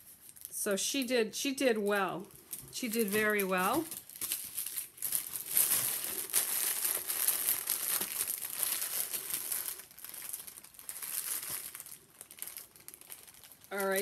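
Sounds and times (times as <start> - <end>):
plastic bag crinkling: 0.0 - 0.6, 2.2 - 14.0.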